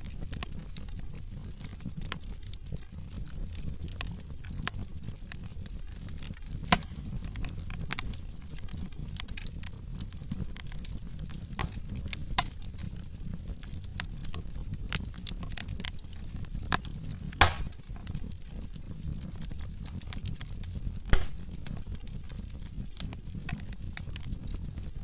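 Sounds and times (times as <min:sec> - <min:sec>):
burning logs popping: 0:00.0 - 0:25.0
low rumble of flames: 0:00.0 - 0:25.0
wood fire crackling: 0:00.0 - 0:25.0.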